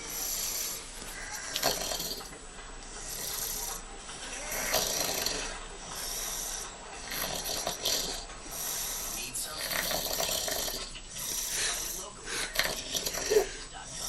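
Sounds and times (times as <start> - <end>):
hissing breaths: 0.0 - 14.0
man snoring: 0.0 - 14.0.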